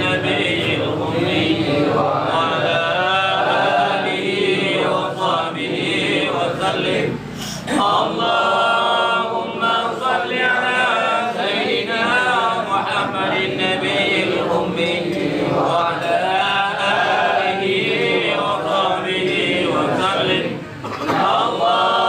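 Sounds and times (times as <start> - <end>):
men chanting prayer in unison: 0.0 - 22.0.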